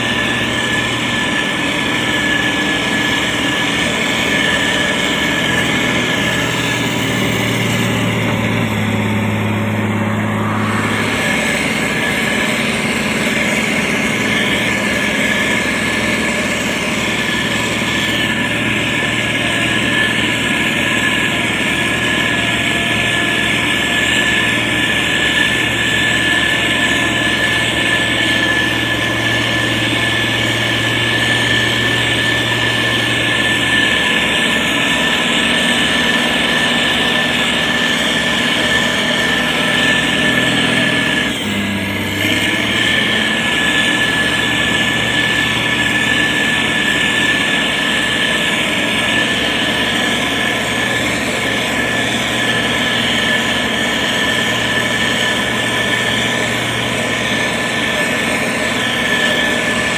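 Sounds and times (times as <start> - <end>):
heavy diesel engine running: 0.0 - 59.9
steady high whine: 0.0 - 59.9.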